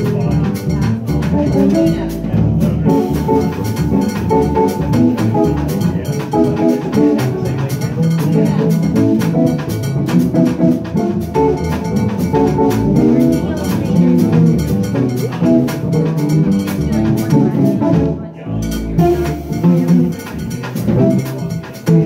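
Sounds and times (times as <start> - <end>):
drum kit with cymbals: 0.0 - 22.0
jazz guitar: 0.0 - 22.0
plucked double bass: 0.0 - 22.0.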